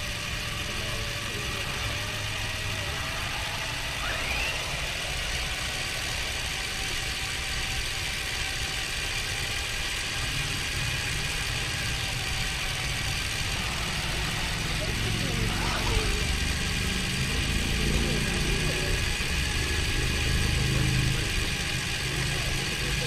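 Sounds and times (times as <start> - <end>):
car engine rumbling: 0.0 - 19.2.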